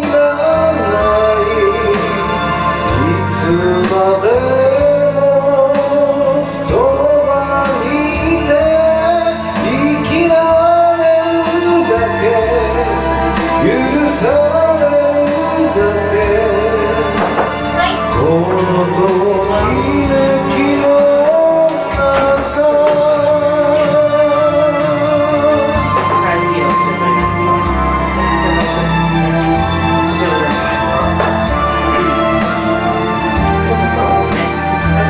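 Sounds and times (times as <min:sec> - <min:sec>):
karaoke backing track: 0:00.0 - 0:35.0.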